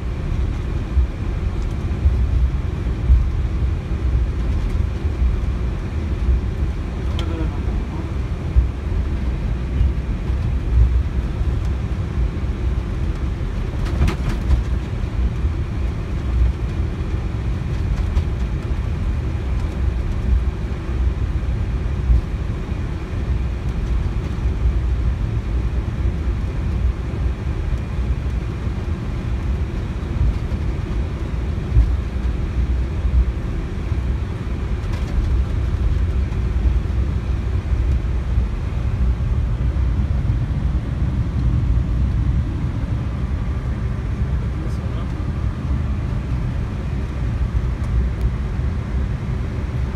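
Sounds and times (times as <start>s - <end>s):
airliner taxiing rumble: 0.0s - 49.9s.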